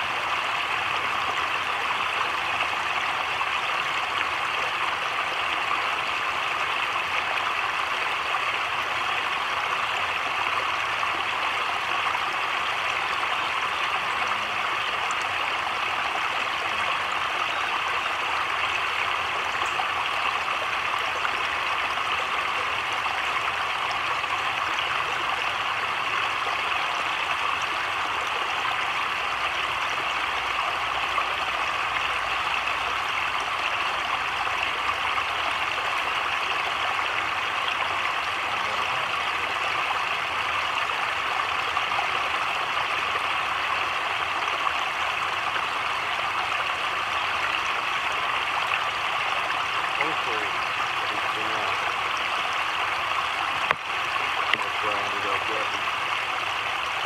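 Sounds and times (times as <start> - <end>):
heavy rain on water and leaves: 0.0 - 57.0.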